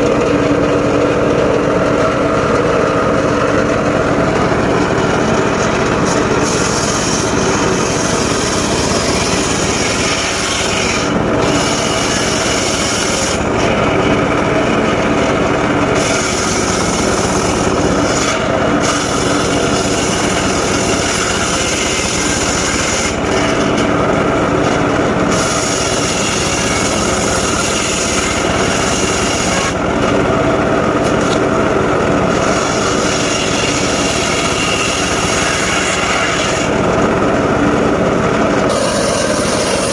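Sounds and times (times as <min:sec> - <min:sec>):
saw blade cutting wood: 0:00.0 - 0:39.9
sawmill engine running: 0:00.0 - 0:39.9.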